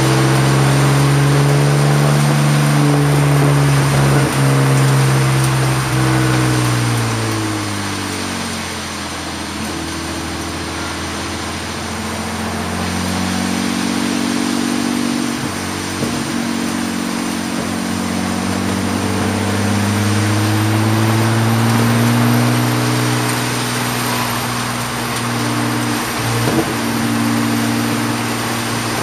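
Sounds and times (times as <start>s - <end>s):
race car engine accelerating: 0.0s - 29.0s
wind and road hiss: 0.0s - 29.0s.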